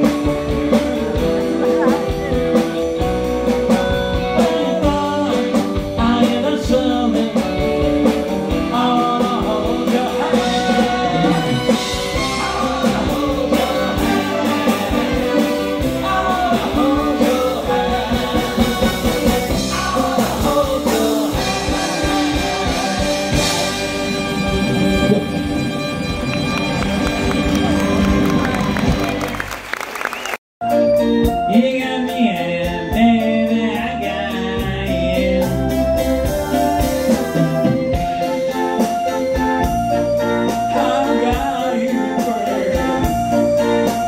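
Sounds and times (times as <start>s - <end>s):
man singing: 0.0s - 24.4s, 31.2s - 38.5s, 40.2s - 44.0s
guitar: 0.0s - 29.4s, 30.6s - 44.0s
drums: 0.0s - 44.0s.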